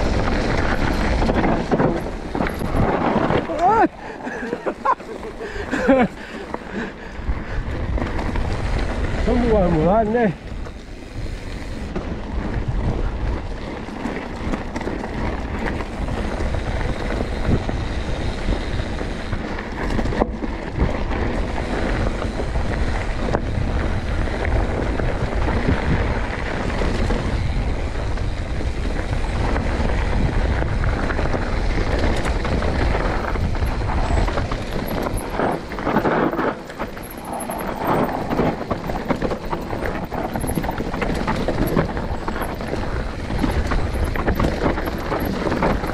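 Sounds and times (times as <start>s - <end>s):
clatter over rough ground: 0.0s - 45.9s
rolling trail noise: 0.0s - 45.9s
wind buffeting microphone: 0.0s - 45.9s.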